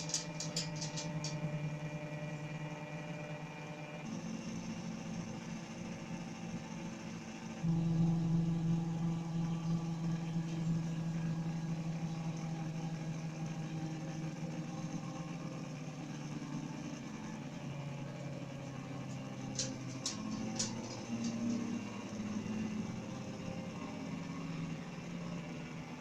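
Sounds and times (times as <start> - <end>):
machine motor hum: 0.0 - 26.0.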